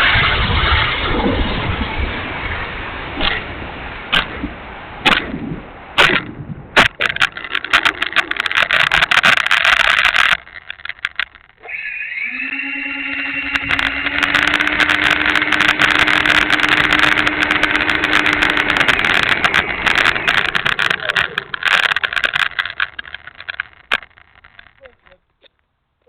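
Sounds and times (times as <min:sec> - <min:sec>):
electric ducted fans whining: 0:00.0 - 0:25.4.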